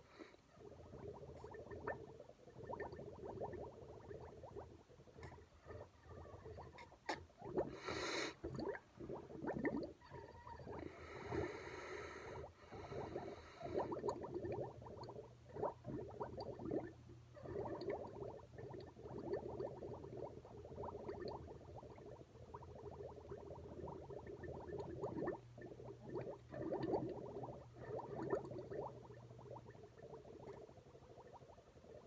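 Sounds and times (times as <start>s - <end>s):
bubbling milk through straw: 0.0s - 32.0s.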